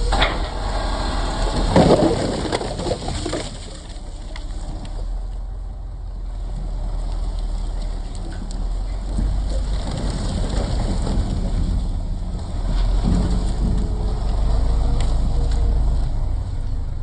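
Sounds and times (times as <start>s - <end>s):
firewood tumbling and clattering: 0.0s - 5.4s, 6.6s - 16.3s
loader diesel engine under load: 0.0s - 17.0s.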